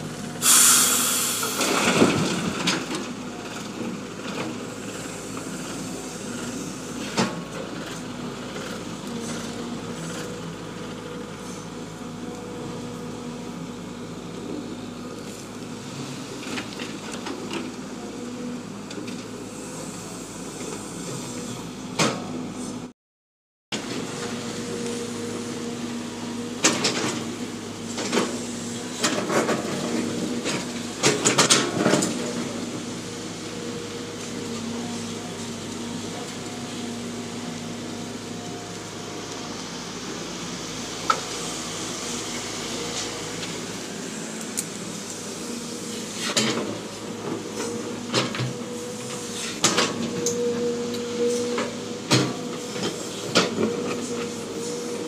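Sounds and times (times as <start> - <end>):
excavator diesel engine running: 0.0 - 22.9, 23.8 - 55.0.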